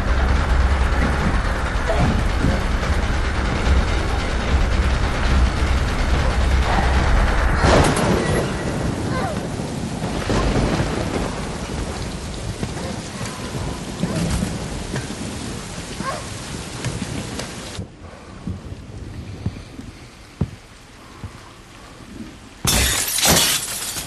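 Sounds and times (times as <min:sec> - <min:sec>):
thunder crack and rumbles: 0:00.0 - 0:21.4
heavy rain pouring: 0:00.0 - 0:24.0.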